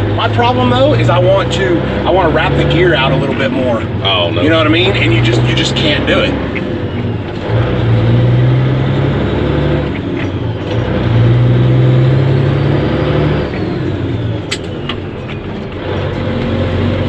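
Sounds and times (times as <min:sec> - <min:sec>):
truck diesel engine pulling: 0:00.0 - 0:17.0.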